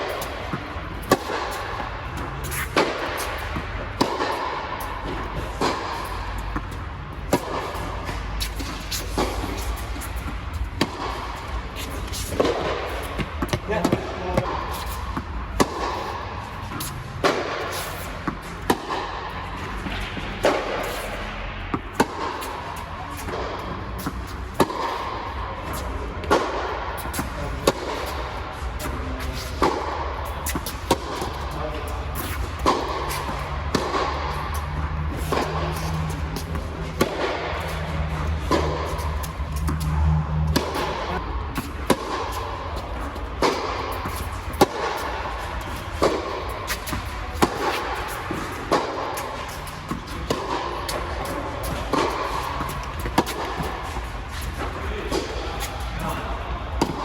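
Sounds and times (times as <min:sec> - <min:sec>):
tennis ball bouncing: 0:00.0 - 0:57.0
tennis ball hit by racquet: 0:00.0 - 0:57.0.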